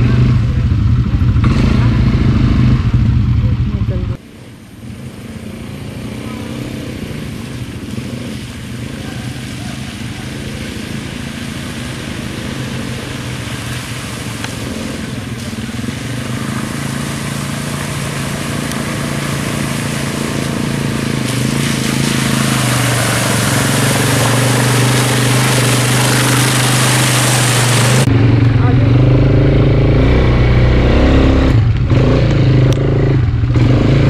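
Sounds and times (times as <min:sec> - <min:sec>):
quad bike engine running: 0:00.0 - 0:34.0.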